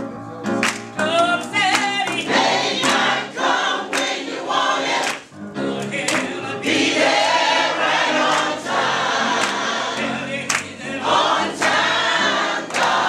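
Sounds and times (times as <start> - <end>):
choir singing gospel: 0.0 - 13.0.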